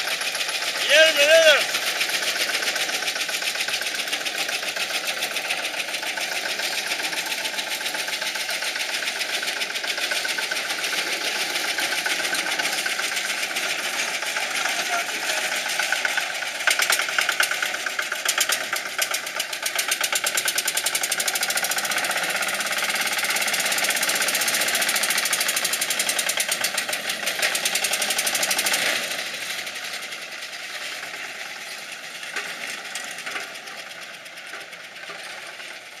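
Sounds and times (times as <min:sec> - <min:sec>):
small engine popping: 0:00.0 - 0:36.0.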